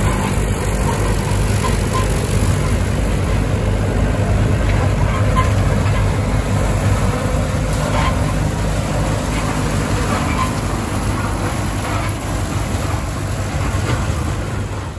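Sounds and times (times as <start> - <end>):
flail mower cutting grass: 0.0 - 14.9
tractor diesel engine running: 0.0 - 14.9.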